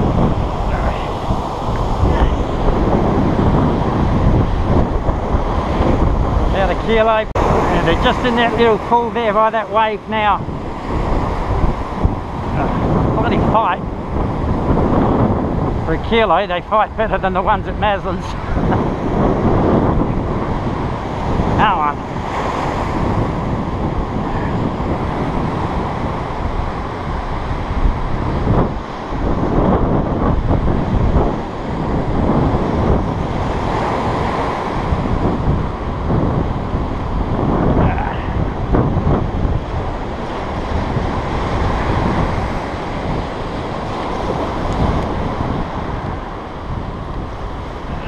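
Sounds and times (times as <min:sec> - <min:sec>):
small waves breaking on sand: 0:00.0 - 0:48.0
surf washing up beach: 0:00.0 - 0:48.0
wind buffeting microphone: 0:00.0 - 0:48.0.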